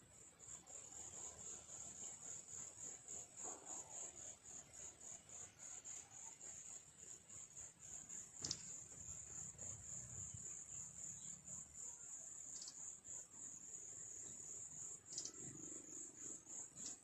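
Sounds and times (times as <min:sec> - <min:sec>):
insect trill: 0:00.0 - 0:17.0.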